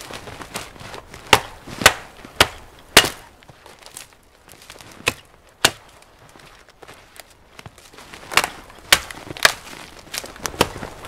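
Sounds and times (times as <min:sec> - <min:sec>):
dry branches snapping: 0:00.0 - 0:11.0.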